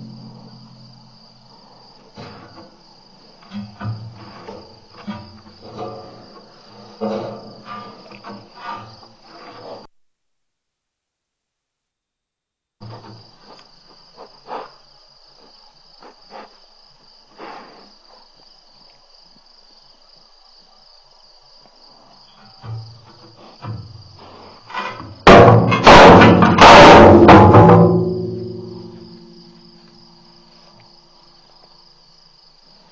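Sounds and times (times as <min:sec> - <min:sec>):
crickets chirping: 0:00.0 - 0:09.9, 0:12.8 - 0:32.9.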